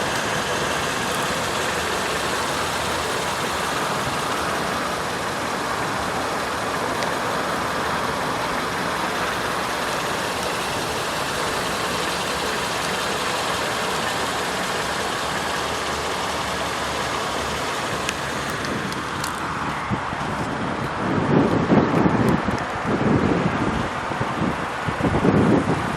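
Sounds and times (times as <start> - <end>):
car engine idling: 0.0 - 20.9
steady outdoor noise: 0.0 - 25.9.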